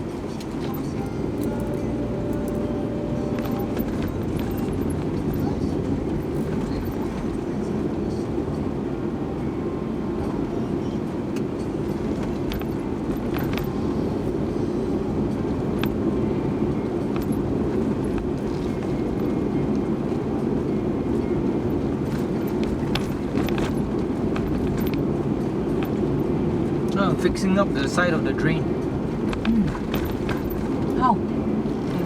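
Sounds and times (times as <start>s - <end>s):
vehicle rumbling: 0.0s - 32.0s.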